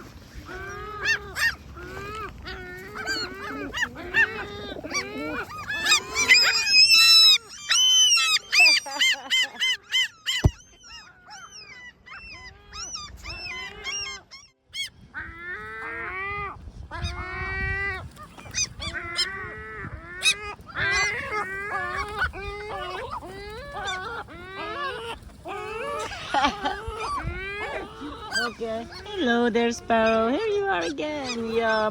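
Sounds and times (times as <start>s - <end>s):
gulls calling: 0.0s - 31.9s.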